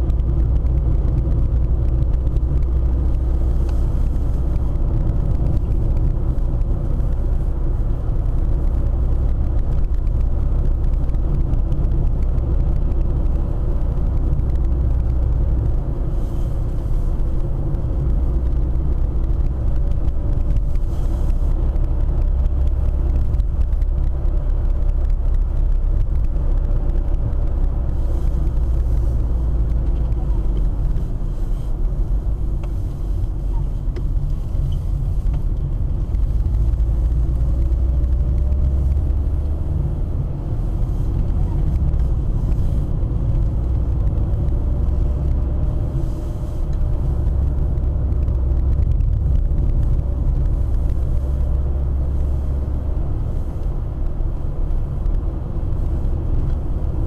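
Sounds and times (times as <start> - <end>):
car driving low rumble: 0.0 - 57.0.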